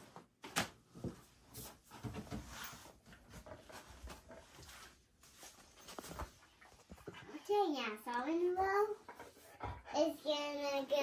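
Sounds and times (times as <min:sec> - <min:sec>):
quiet rustling: 0:01.0 - 0:09.9.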